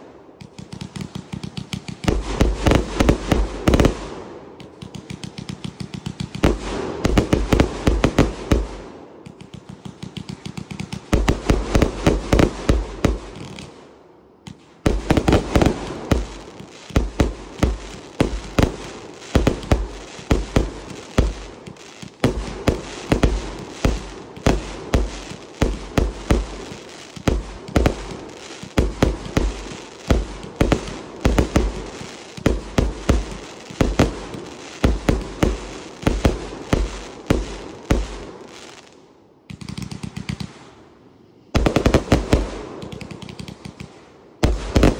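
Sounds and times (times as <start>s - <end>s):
firework shots with crackle: 0.0s - 40.9s, 41.6s - 44.9s.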